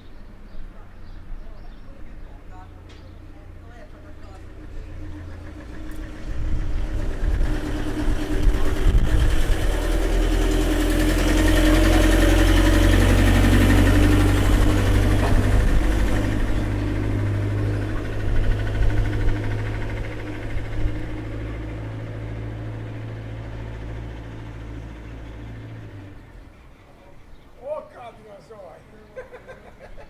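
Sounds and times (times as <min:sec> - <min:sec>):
vehicle engine humming: 0:02.1 - 0:30.0.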